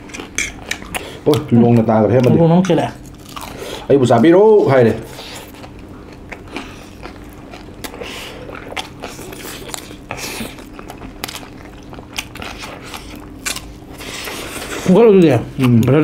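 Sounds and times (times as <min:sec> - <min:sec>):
chewing and biting food: 0:00.0 - 0:03.9, 0:05.0 - 0:16.0.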